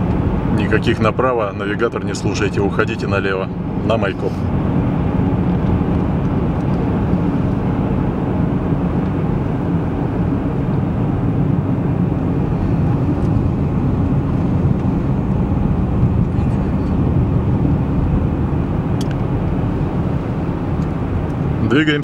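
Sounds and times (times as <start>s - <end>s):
car tyres and engine rumble: 0.0s - 22.0s.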